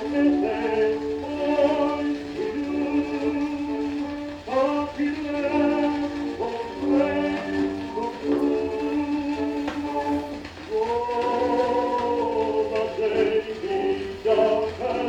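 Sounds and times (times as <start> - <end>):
faint record hum: 0.0 - 15.0
tenor singing on old record: 0.0 - 15.0.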